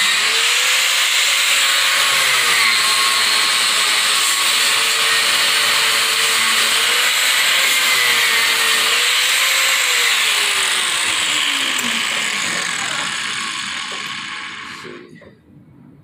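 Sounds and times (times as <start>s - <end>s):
angle grinder grinding steel: 0.0s - 15.1s.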